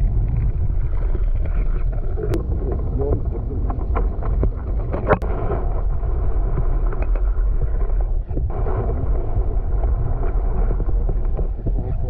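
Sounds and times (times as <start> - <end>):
underwater rumble and water noise: 0.0 - 12.0.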